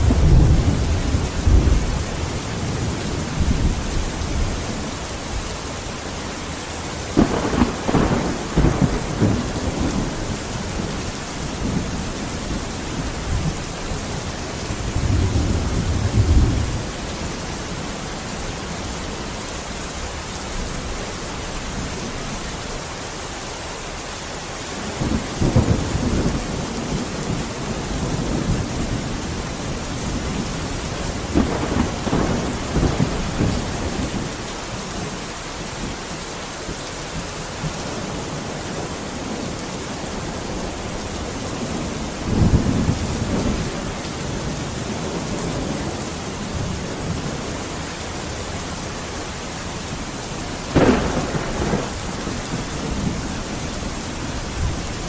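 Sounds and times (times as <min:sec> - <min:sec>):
thunder rumbling: 0:00.0 - 0:05.4, 0:07.0 - 0:17.3, 0:24.8 - 0:36.0, 0:36.7 - 0:55.0
heavy rain: 0:00.0 - 0:55.0.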